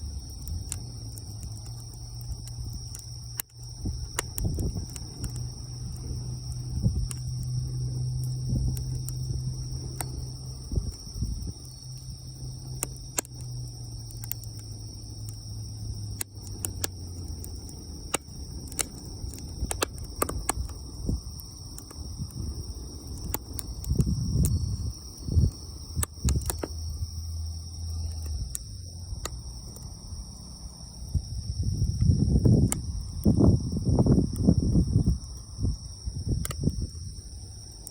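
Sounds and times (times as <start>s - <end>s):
insect chorus: 0.0s - 37.9s
wood fire crackling: 0.0s - 37.9s.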